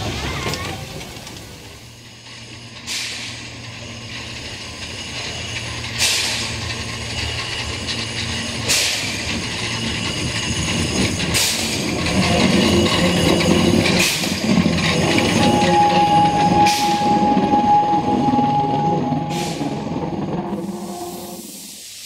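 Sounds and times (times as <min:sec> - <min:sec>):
rumble of locomotive wheels: 0:00.0 - 0:22.0
steam locomotive exhaust chuffs: 0:00.0 - 0:22.0.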